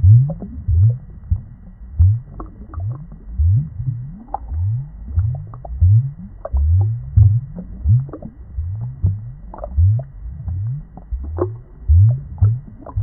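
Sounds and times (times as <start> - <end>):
aquarium water gurgling: 0.0 - 13.0
small bubbles popping: 0.0 - 13.0.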